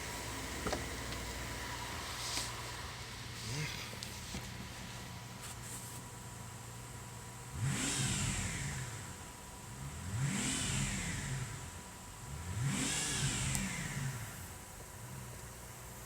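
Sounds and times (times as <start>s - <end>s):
car engine idling and revving: 0.0s - 5.4s, 6.0s - 16.0s.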